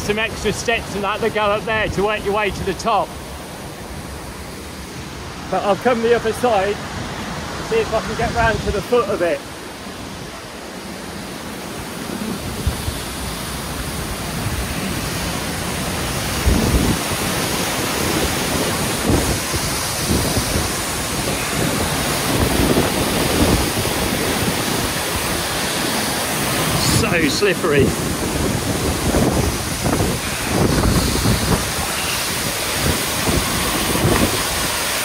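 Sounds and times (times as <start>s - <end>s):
waterfall rushing: 0.0s - 35.0s
wind buffeting microphone: 0.0s - 35.0s.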